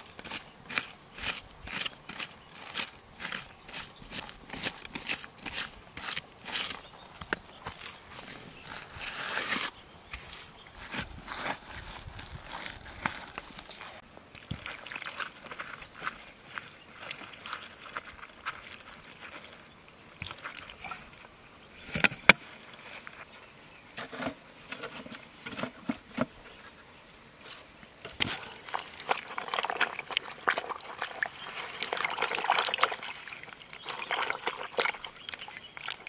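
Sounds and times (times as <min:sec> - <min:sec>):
fingers squelching in wet mud: 0:00.0 - 0:21.1, 0:28.2 - 0:36.0.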